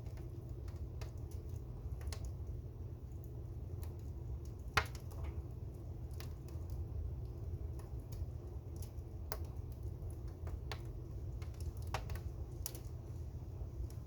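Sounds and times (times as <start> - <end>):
fire crackling and popping: 0.0 - 14.0
low steady rumble: 0.0 - 14.0.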